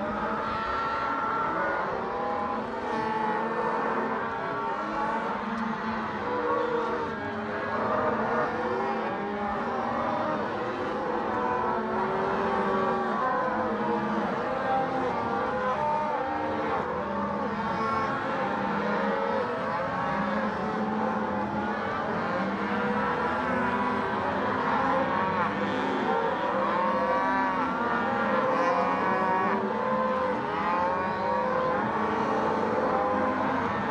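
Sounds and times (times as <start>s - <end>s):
cattle bawling and mooing: 0.0s - 33.9s.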